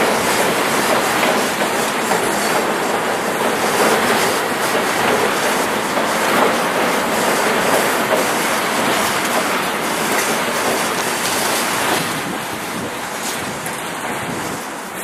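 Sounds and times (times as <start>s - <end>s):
freight train rolling: 0.0s - 15.0s.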